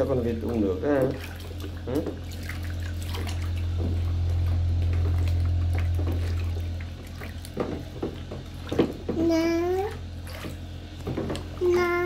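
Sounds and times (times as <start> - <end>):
bathwater splashing and pouring: 0.0 - 12.0
low hum: 0.0 - 12.0.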